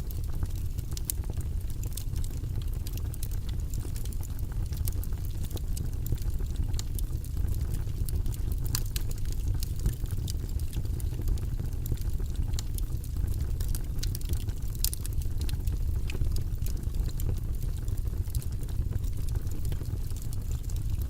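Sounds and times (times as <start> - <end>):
fire crackles and pops: 0.0 - 21.0
low rumble of flames: 0.0 - 21.0.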